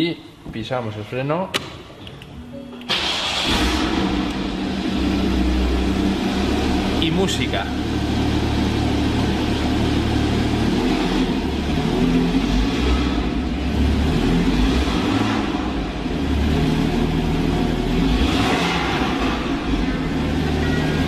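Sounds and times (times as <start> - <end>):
car engine revving in garage: 2.9 - 21.0.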